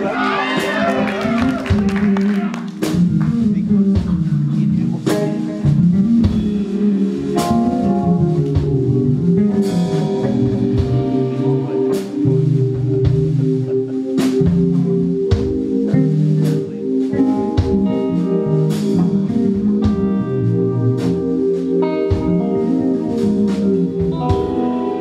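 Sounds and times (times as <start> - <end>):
band playing slow ballad: 0.0 - 25.0
electric bass fingerstyle: 0.9 - 25.0.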